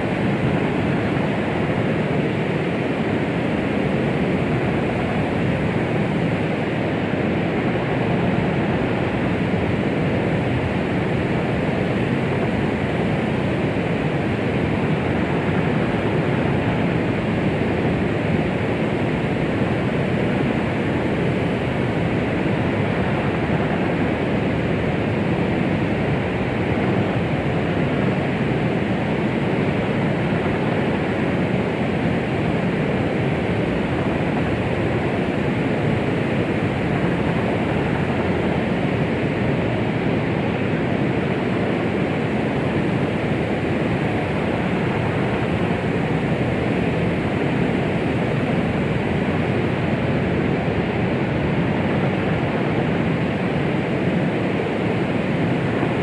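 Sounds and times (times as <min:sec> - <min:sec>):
steady white noise rushing: 0:00.0 - 0:56.0.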